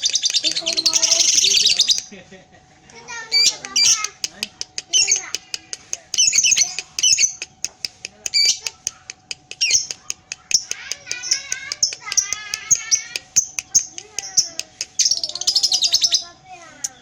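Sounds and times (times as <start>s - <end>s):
lovebird chattering song: 0.0s - 2.2s, 3.2s - 17.0s.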